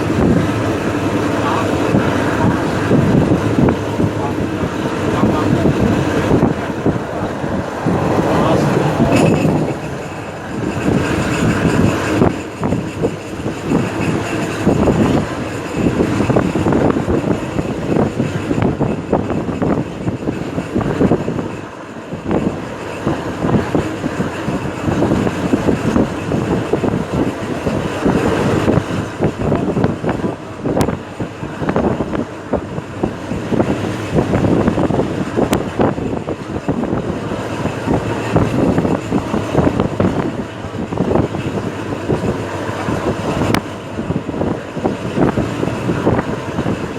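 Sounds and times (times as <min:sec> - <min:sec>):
diesel train rumbling past: 0:00.0 - 0:46.9
rapid rattling clicks of wheels: 0:00.0 - 0:46.9.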